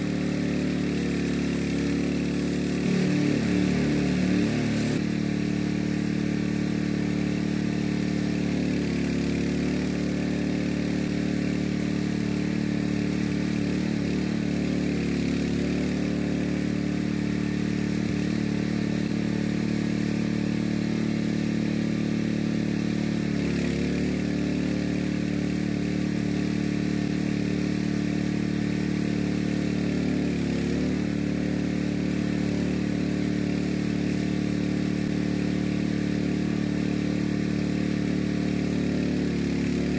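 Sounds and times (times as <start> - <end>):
small pump engine running: 0.0 - 39.9.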